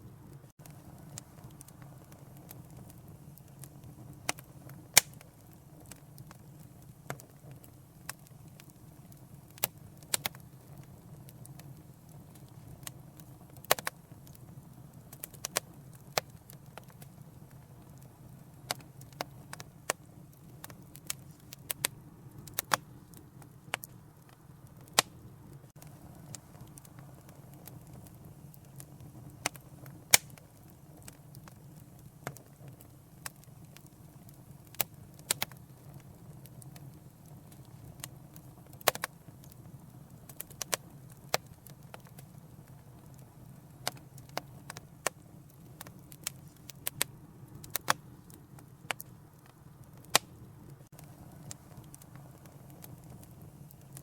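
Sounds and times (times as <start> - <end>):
fire crackling and popping: 0.0 - 54.0
low rumble of burning: 0.0 - 54.0.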